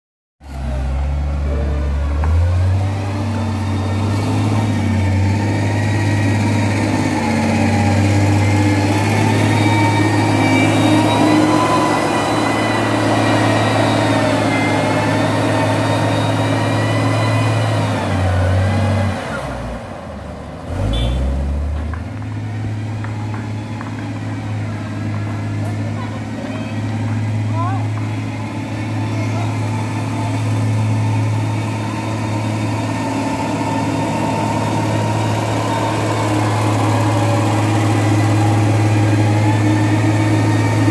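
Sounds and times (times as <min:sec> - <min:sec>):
construction machinery engine humming: 0:00.4 - 0:40.9.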